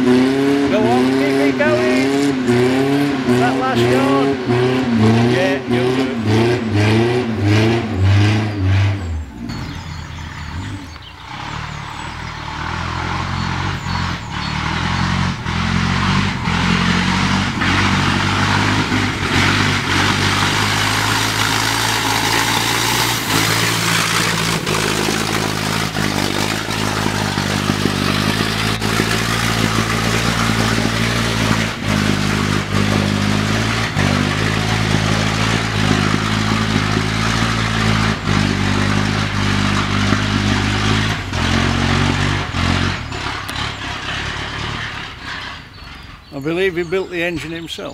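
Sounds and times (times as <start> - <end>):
sports car engine working hard: 0.0 - 47.9.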